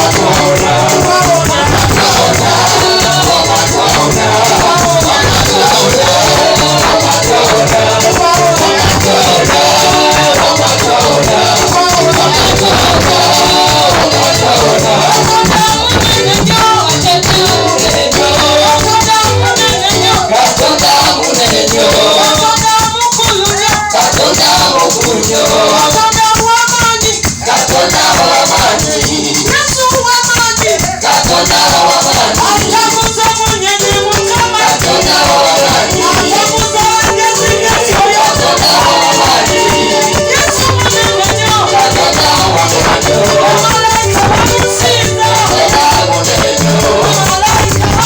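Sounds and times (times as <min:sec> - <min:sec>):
busy percussion: 0:00.0 - 0:48.0
shakers keeping a fast beat: 0:00.0 - 0:48.0
voices singing worship music: 0:00.0 - 0:48.0.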